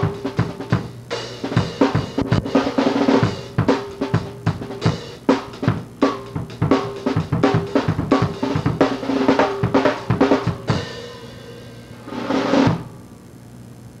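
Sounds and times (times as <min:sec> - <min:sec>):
snare and bass drum strokes: 0:00.0 - 0:12.9
drum roll: 0:00.0 - 0:13.0
low steady hum: 0:00.0 - 0:14.0.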